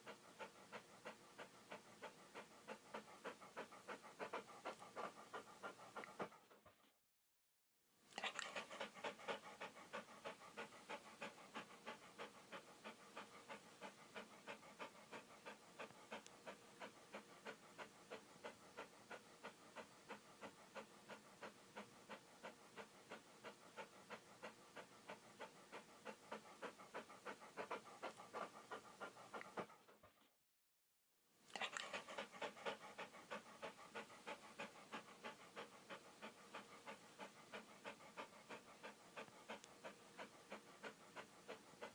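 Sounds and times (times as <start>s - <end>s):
dog panting: 0.0s - 7.0s, 8.2s - 30.4s, 31.5s - 41.9s.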